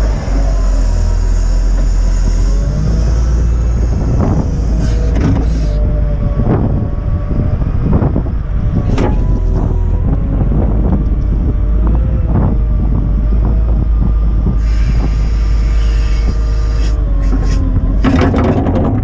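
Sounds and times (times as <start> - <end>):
diesel engine running under load: 0.0 - 19.0
engine whine shifting in pitch: 0.0 - 19.0.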